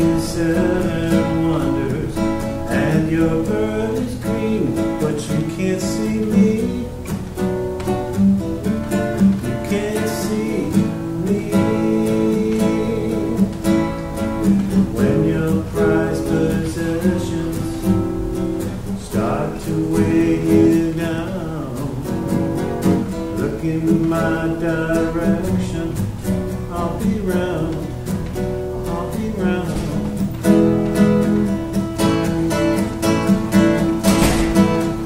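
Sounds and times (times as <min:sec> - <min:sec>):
man singing: 0:00.0 - 0:07.2, 0:09.1 - 0:35.0
classical guitar strumming: 0:00.0 - 0:35.0.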